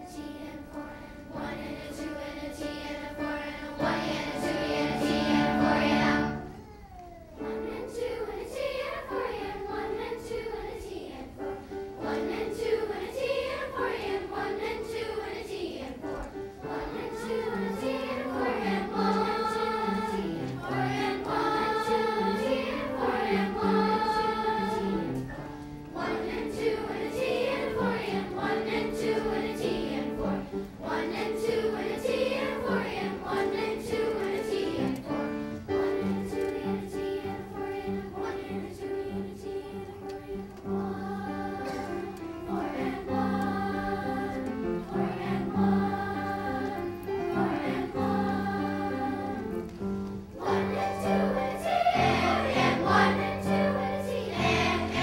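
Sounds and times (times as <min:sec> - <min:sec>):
children's chorus singing: 0:00.0 - 0:55.0.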